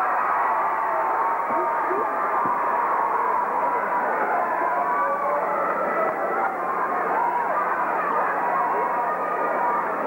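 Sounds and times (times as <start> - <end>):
crowd yelling: 0.0 - 10.0.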